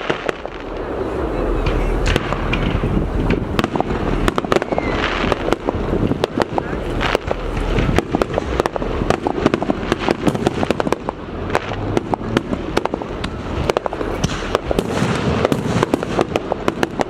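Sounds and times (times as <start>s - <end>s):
fireworks cracks and bangs: 0.0s - 17.0s
low rumble of explosions: 0.0s - 17.0s.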